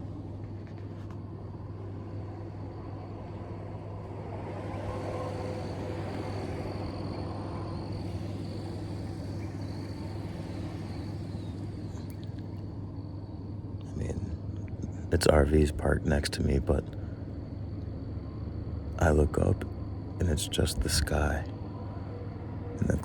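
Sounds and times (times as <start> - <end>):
low outdoor hum: 0.0 - 23.0.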